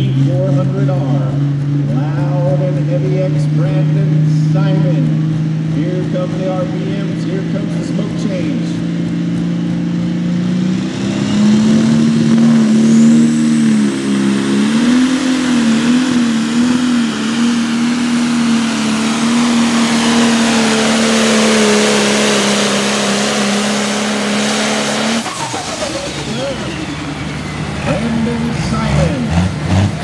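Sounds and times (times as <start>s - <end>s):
diesel engine at high revs: 0.0s - 30.0s.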